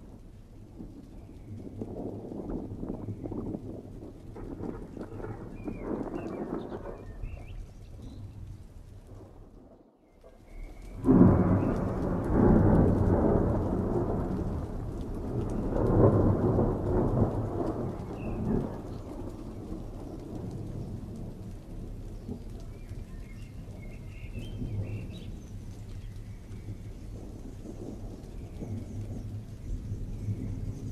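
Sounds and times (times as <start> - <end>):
thunder rumbling: 0.0 - 30.9.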